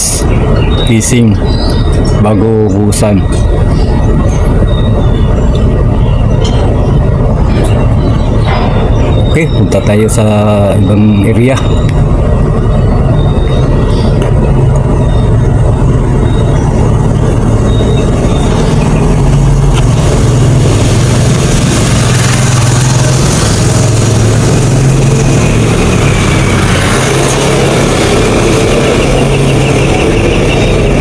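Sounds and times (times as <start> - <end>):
vehicle engine running: 0.0 - 31.0
wind and road noise: 0.0 - 31.0.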